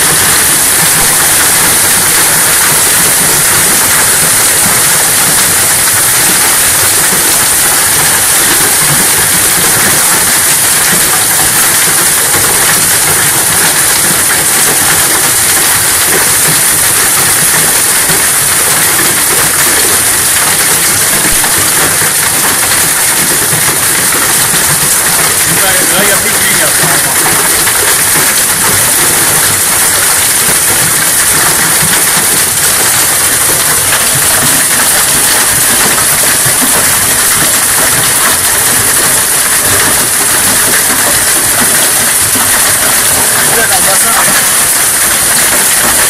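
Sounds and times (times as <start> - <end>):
heavy hail pelting down: 0.0 - 46.0.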